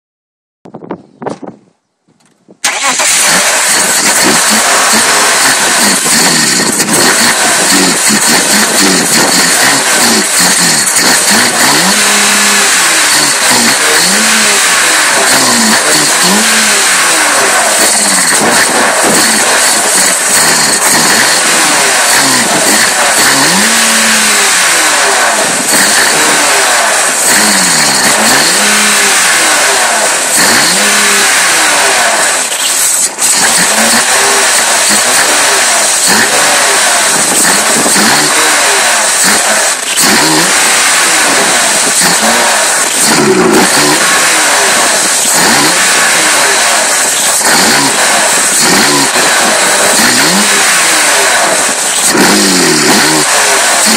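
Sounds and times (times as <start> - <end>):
car engine idling roughly: 2.7 - 53.9.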